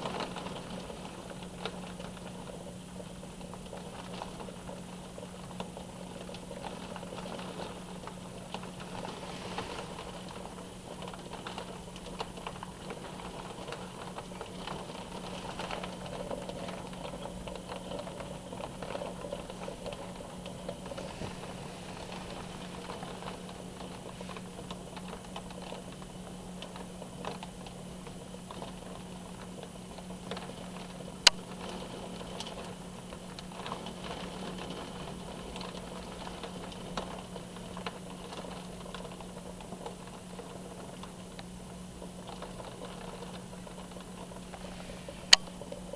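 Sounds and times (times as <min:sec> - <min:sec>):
heavy rain pattering: 0:00.0 - 0:45.9
steady low hum: 0:00.0 - 0:45.9.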